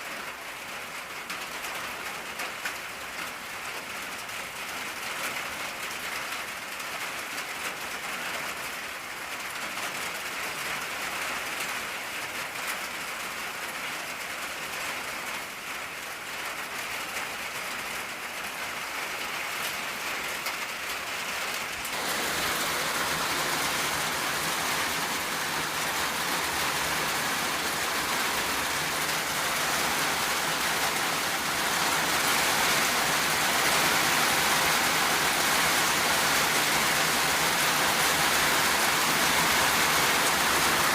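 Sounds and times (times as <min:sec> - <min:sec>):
rain drumming on a tin roof: 0:00.0 - 0:40.9.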